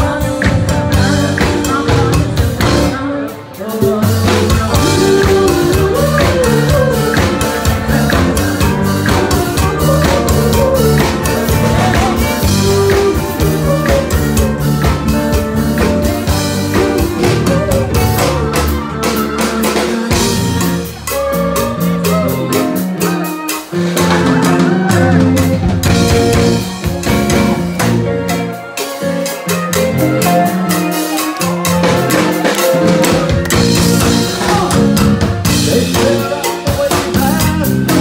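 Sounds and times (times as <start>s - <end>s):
bass: 0.0s - 38.0s
drum kit: 0.0s - 38.0s
live band playing: 0.0s - 38.0s.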